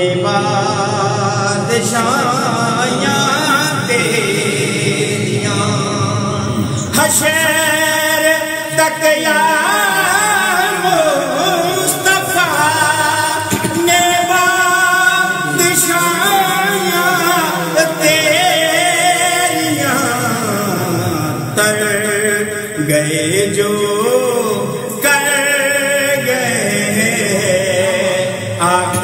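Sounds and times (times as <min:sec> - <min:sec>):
man singing ornamented notes: 0:00.0 - 0:29.0.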